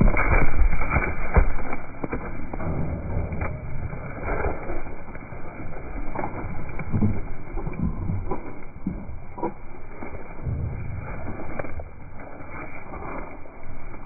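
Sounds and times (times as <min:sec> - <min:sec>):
rustling against microphone: 0:00.0 - 0:14.0
sheep cropping grass: 0:00.0 - 0:14.0.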